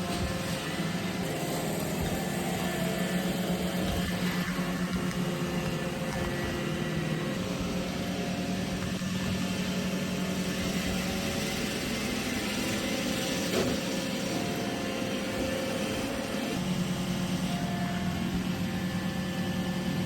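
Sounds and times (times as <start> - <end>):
robot vacuum motor and brush hum: 0.0 - 20.0.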